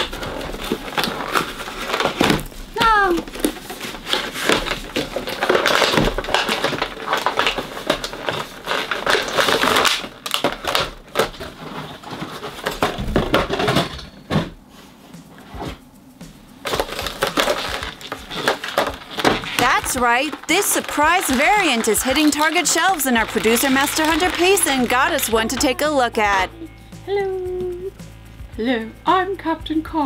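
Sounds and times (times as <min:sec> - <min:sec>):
plastic and cardboard packaging crinkling: 0:00.0 - 0:14.5, 0:16.6 - 0:26.5.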